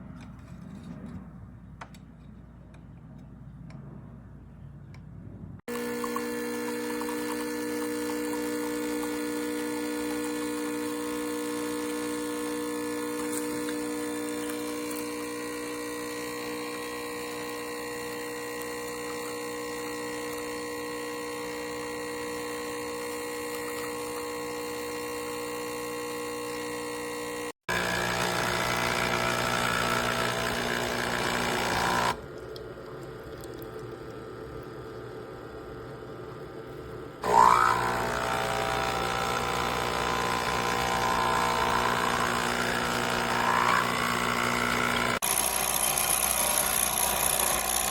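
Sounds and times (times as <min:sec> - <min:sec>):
espresso machine pump buzzing: 0:05.7 - 0:47.9.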